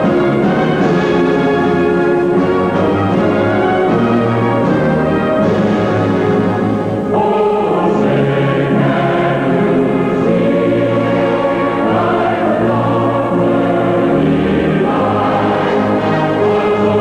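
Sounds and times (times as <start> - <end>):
choir singing held chords: 0.0 - 17.0
orchestra playing: 0.0 - 17.0.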